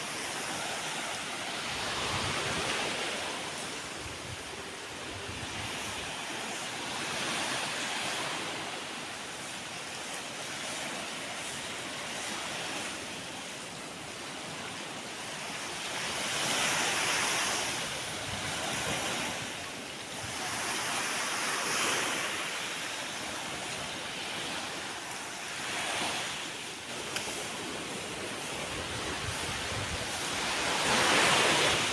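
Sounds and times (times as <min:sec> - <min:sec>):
ocean waves breaking: 0:00.0 - 0:31.9.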